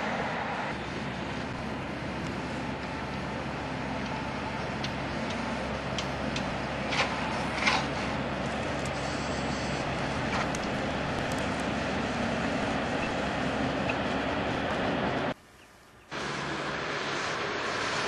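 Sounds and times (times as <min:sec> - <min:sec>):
diesel locomotive engine humming: 0:00.0 - 0:18.0.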